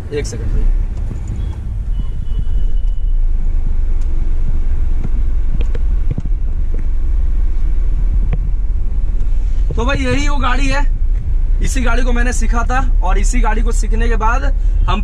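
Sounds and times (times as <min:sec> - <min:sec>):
car cabin engine rumble: 0:00.0 - 0:15.0.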